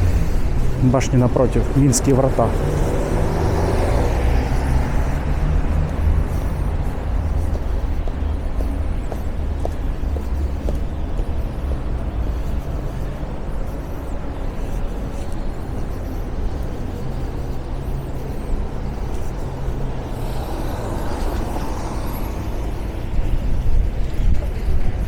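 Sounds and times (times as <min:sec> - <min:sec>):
heavier vehicle rumble: 0:00.0 - 0:25.0
traffic engines rumbling: 0:00.0 - 0:25.0
vehicle passing: 0:00.0 - 0:25.0.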